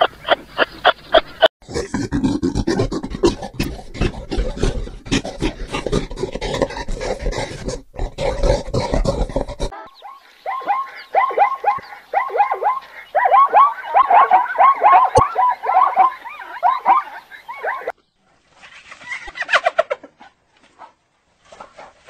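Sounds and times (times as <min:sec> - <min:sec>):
high animal calls: 0:00.0 - 0:18.0.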